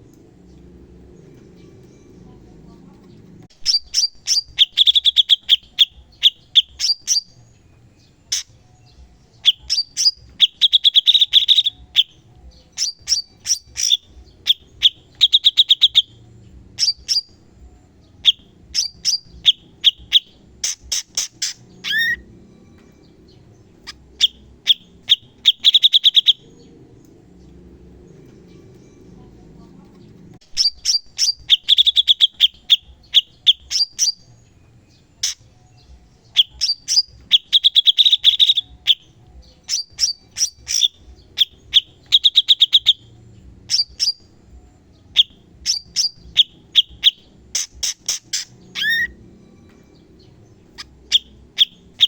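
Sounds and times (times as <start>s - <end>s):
bird singing sharp high notes: 3.5s - 17.5s, 18.1s - 26.7s, 30.4s - 44.3s, 45.1s - 52.0s.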